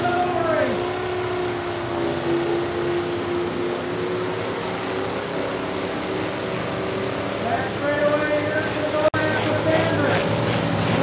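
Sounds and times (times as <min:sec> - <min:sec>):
truck engines droning: 0:00.0 - 0:11.0.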